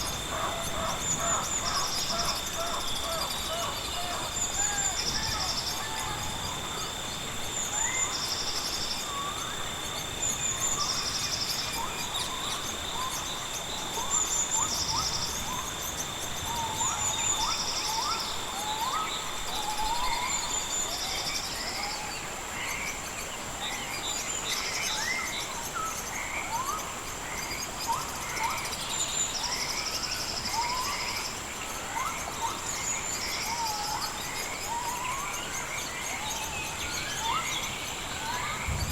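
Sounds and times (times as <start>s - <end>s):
insects high drone: 0.0s - 38.9s
lower insect drone: 0.0s - 38.9s.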